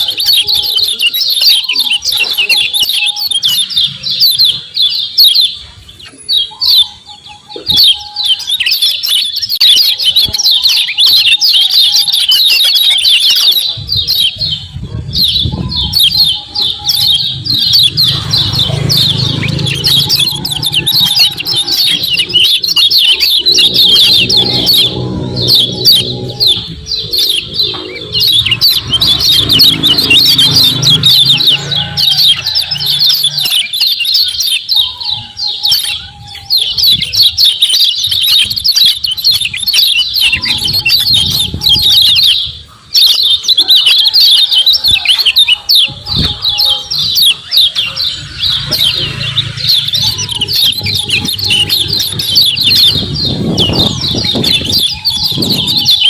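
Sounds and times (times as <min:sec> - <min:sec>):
birds chirping rapidly: 0:00.0 - 0:56.0.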